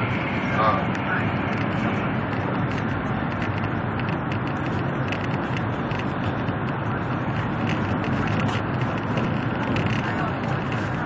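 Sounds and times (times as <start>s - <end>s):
train cabin rumble and hiss: 0.0s - 11.0s.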